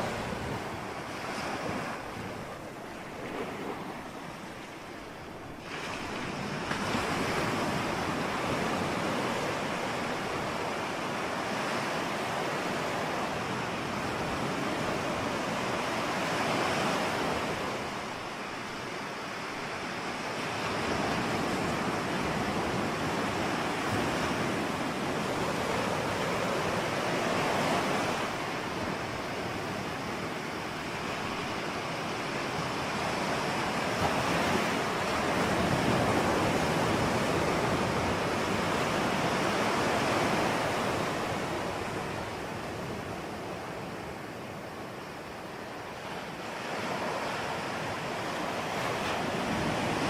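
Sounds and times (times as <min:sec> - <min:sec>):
ocean waves breaking: 0:00.0 - 0:50.0.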